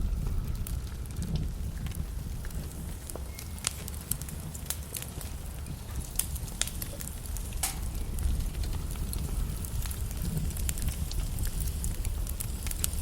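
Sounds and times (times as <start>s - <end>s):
logs burning with crackles: 0.0s - 13.0s.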